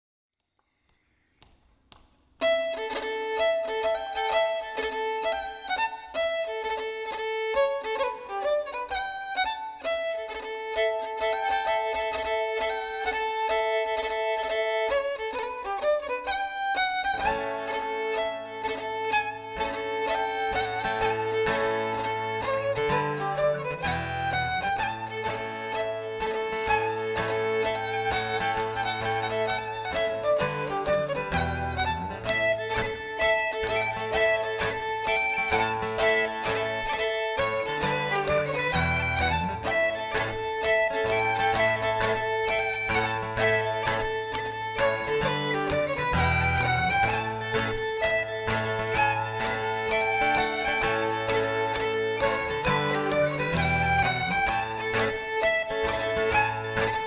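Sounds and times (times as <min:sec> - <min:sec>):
pipes fiddle and guitar folk music: 0:02.4 - 0:57.0.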